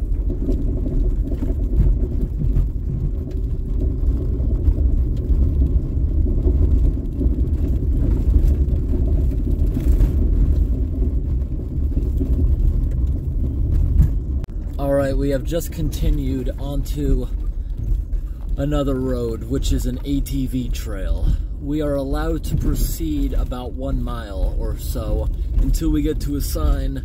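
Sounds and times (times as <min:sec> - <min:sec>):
tyres and engine rumbling: 0:00.0 - 0:27.0.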